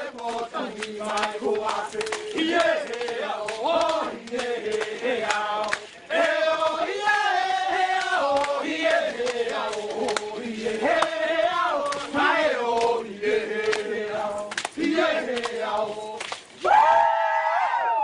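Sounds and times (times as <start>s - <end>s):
men chanting in unison: 0.0s - 16.3s.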